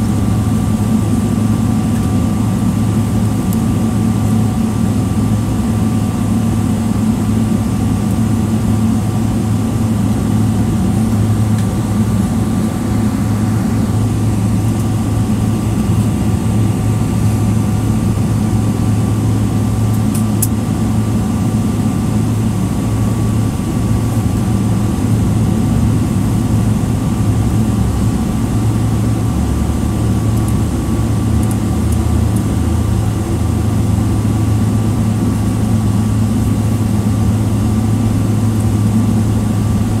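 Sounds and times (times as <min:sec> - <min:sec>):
jet engines droning in cabin: 0:00.0 - 0:40.0.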